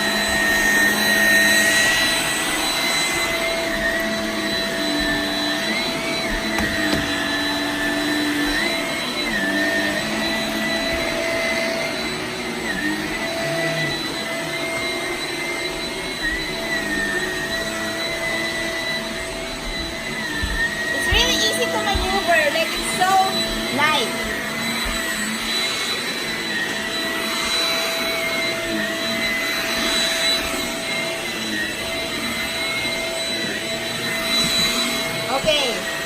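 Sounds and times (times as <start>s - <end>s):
vacuum cleaner motor whine: 0.0s - 36.0s.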